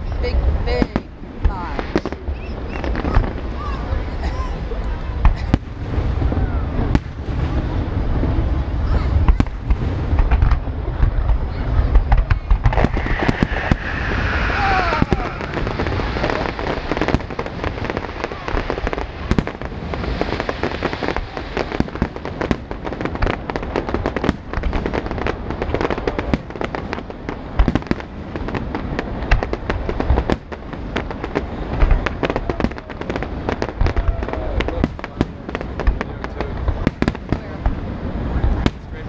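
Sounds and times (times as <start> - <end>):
deep firework booms: 0.0 - 39.0
fireworks bangs and crackles: 0.0 - 39.0.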